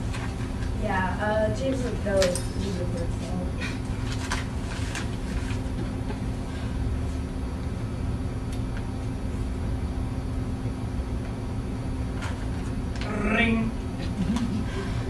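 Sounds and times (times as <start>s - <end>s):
low room rumble and hum: 0.0s - 15.0s.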